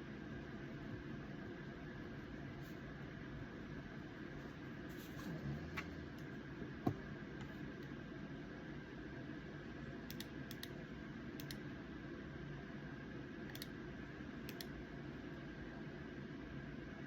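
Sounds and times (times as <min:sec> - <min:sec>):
faint room hum and hiss: 0:00.0 - 0:17.0.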